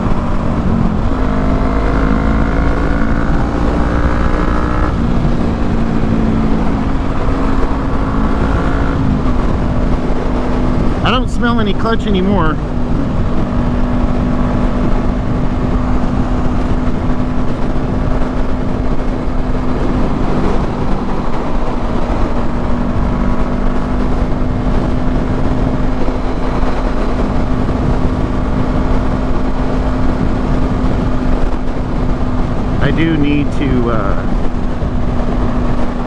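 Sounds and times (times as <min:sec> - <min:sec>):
motorcycle engine cruising: 0:00.0 - 0:36.0
wind rush on microphone: 0:00.0 - 0:36.0.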